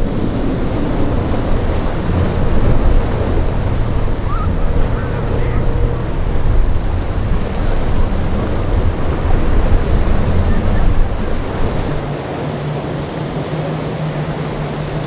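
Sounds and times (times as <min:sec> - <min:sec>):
outboard motor running: 0:00.0 - 0:15.0
surf and choppy water: 0:00.0 - 0:15.0
wind buffeting microphone: 0:00.0 - 0:15.0.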